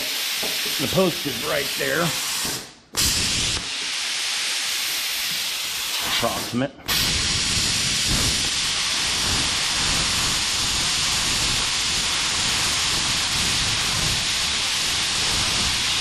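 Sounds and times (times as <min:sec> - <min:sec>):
plasma cutter hissing: 0:00.0 - 0:16.0.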